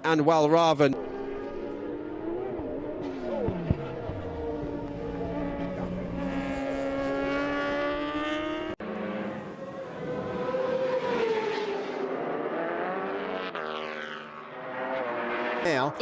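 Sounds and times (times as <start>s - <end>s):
racing motorcycle engine revving: 1.0s - 16.0s.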